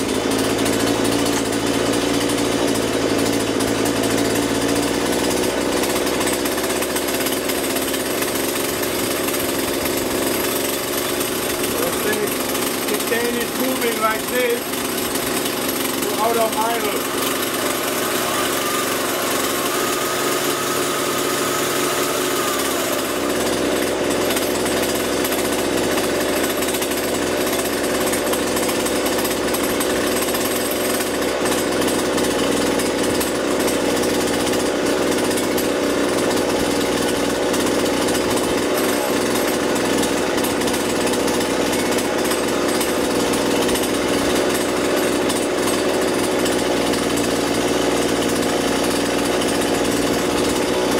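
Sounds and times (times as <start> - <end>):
chainsaw engine idling: 0.0 - 50.9.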